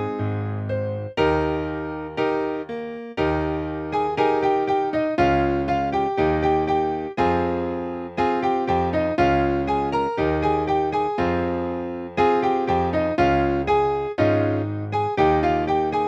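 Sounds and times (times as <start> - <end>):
slow sad piano music: 0.0 - 16.0.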